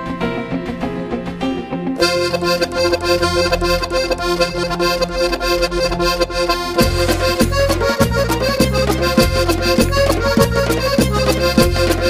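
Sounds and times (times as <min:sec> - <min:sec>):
sustained melody notes: 0:01.9 - 0:12.0
low bass beat: 0:02.0 - 0:12.0.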